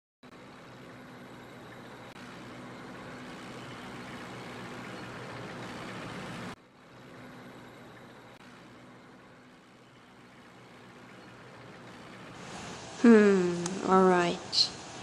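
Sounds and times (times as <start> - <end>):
engine rumble with hiss: 0.3 - 15.0.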